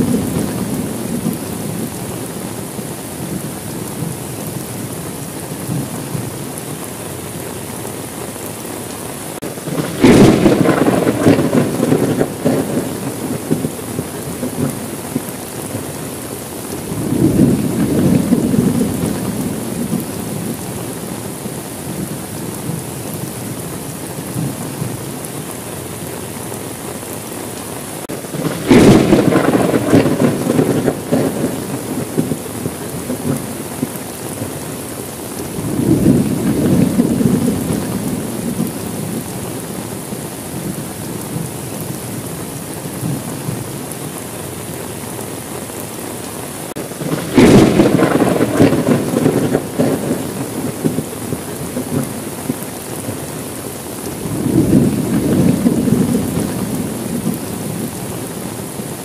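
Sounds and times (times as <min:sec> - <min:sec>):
thunder rumbling: 0:00.0 - 0:08.4, 0:09.4 - 0:26.1, 0:28.0 - 0:44.8, 0:46.6 - 0:59.0
steady rain: 0:00.0 - 0:59.0.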